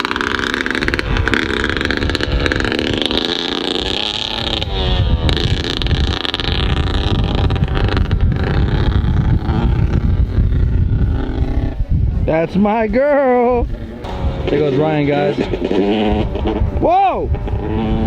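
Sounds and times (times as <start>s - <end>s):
dirt bike engine running: 0.0s - 18.0s
wind buffeting on microphone: 0.0s - 18.0s.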